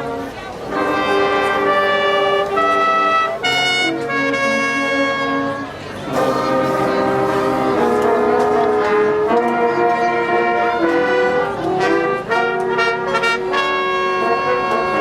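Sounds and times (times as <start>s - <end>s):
brass orchestra playing chords: 0.0s - 15.0s.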